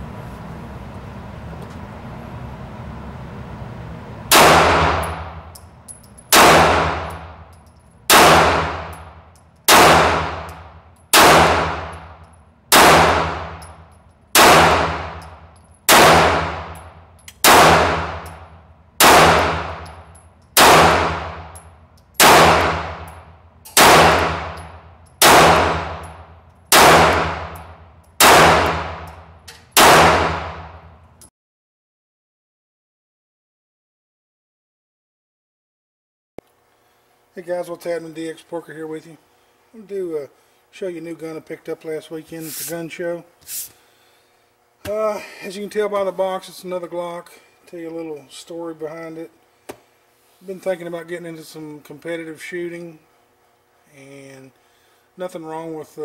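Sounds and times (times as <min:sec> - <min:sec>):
low steady hum: 0:00.0 - 0:31.3, 0:36.4 - 0:56.0.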